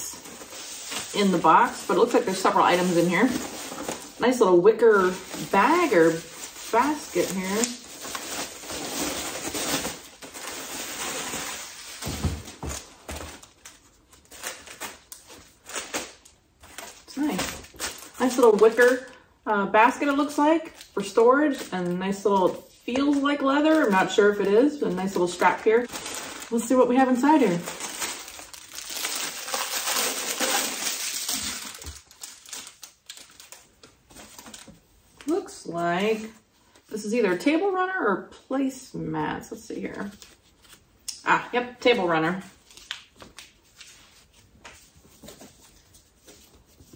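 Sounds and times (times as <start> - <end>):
plastic wrapping crinkling: 0.0 - 19.2, 20.6 - 36.8, 42.6 - 46.9.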